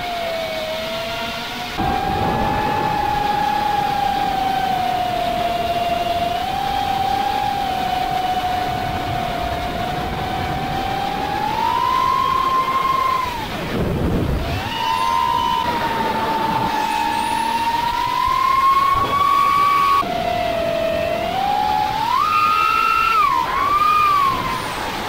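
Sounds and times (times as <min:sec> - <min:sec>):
drone motors whining: 0:00.0 - 0:25.0
wind rush on microphone: 0:01.8 - 0:25.0.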